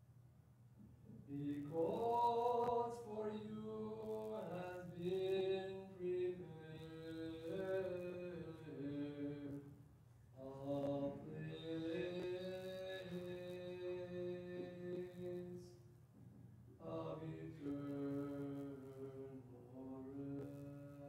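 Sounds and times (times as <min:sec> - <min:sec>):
man chanting a hymn: 0:01.2 - 0:09.8, 0:10.4 - 0:15.8, 0:16.8 - 0:21.0.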